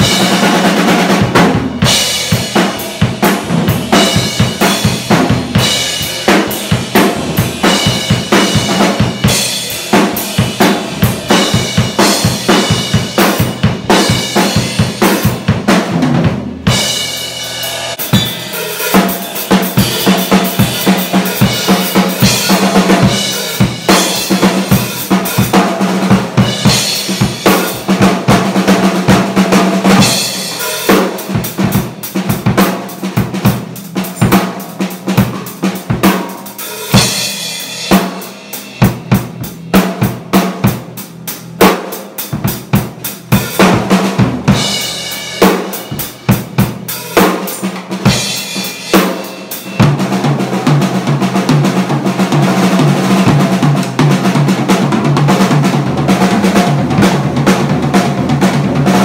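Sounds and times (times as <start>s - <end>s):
drum kit playing: 0.0s - 59.0s.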